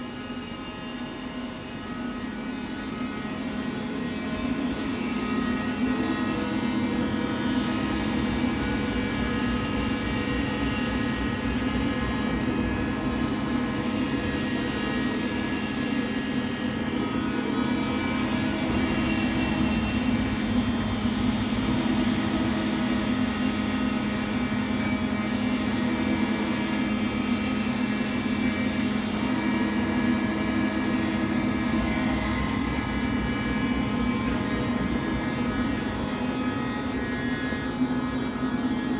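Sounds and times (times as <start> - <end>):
lathe machine drone: 0.0 - 38.9
whining tones gliding in pitch: 0.0 - 38.9.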